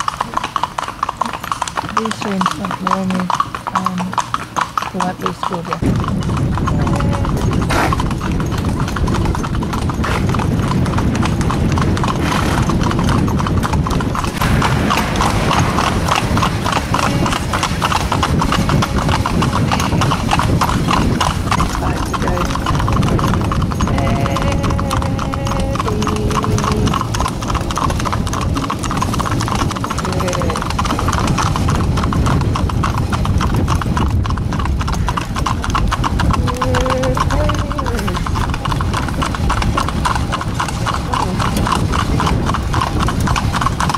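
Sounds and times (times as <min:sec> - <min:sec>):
hooves clip-clopping on road: 0:00.0 - 0:43.9.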